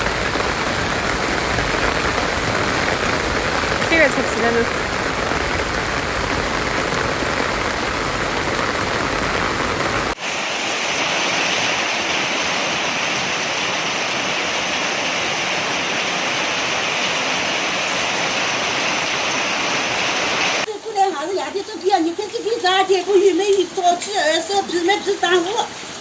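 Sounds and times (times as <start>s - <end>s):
rush of water: 0.0s - 20.9s, 22.2s - 26.0s
heavy rain pouring: 0.0s - 26.0s.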